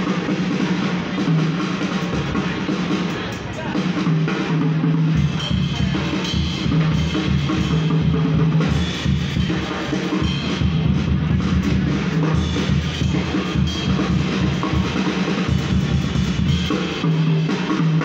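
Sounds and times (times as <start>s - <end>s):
drum kit with cymbals: 0.0s - 18.0s.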